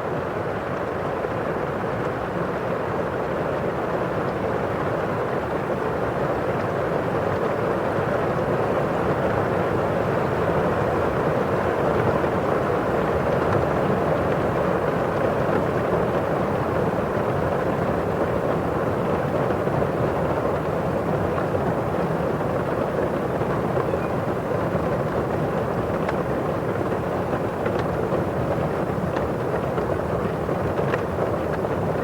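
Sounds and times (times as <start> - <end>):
rain on a window pane: 0.0 - 32.0.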